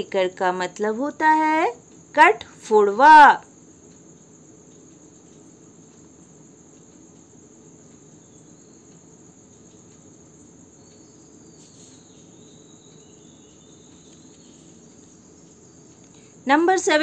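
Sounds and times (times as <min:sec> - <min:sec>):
high-pitched insect trill: 0:00.0 - 0:17.0.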